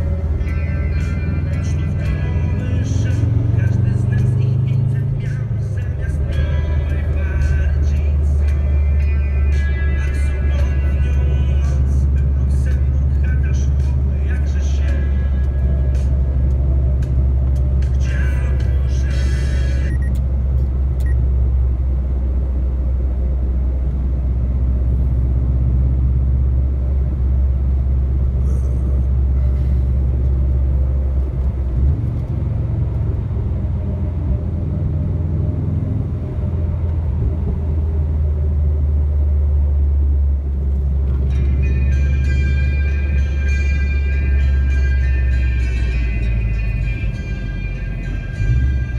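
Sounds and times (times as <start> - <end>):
car engine drone: 0.0 - 48.9
road noise: 0.0 - 48.9.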